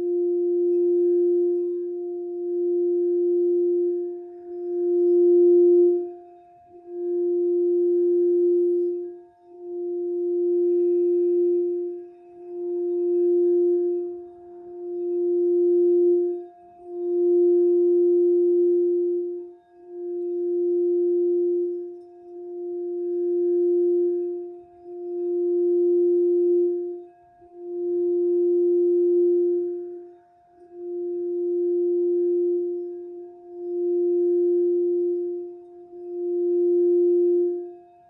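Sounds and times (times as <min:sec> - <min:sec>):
crystal singing bowl tone: 0:00.0 - 0:38.0.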